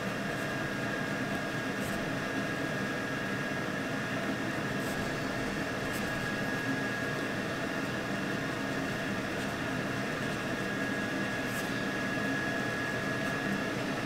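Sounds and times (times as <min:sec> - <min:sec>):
appliance fan whirring hum: 0:00.0 - 0:14.0.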